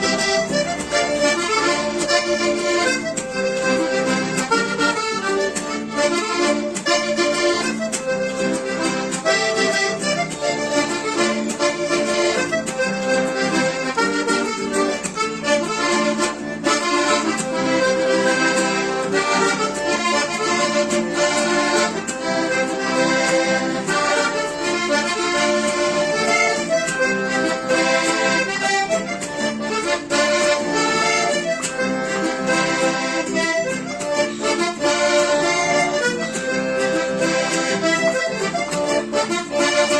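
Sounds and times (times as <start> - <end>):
accordion melody: 0.0 - 39.9.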